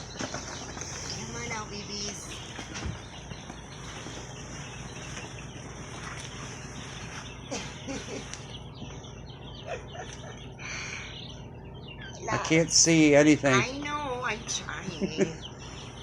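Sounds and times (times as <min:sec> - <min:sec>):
chicks peeping: 0:00.0 - 0:16.0
low background hum: 0:00.0 - 0:16.0.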